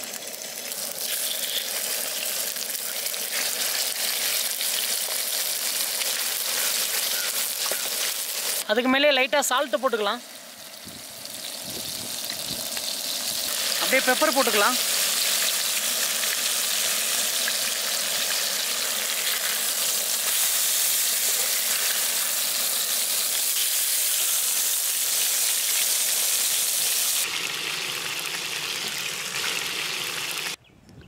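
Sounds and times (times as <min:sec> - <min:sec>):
chicken sizzling in oil: 0:00.0 - 0:30.6.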